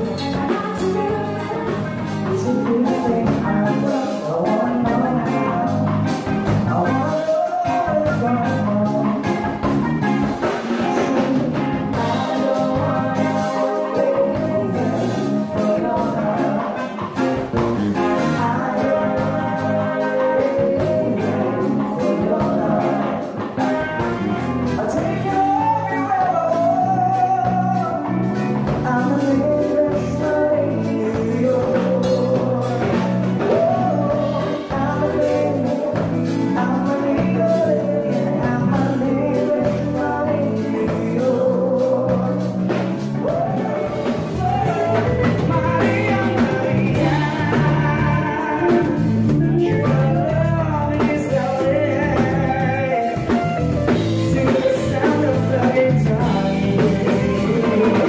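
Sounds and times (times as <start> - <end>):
live band playing: 0.0 - 58.0
person singing: 0.0 - 58.0.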